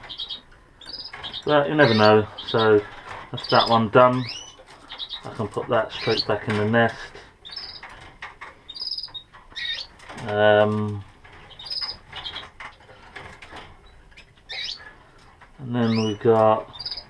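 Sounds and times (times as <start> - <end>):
cage handling clicks and rattles: 0.0 - 17.0
canaries chirping: 0.0 - 17.0.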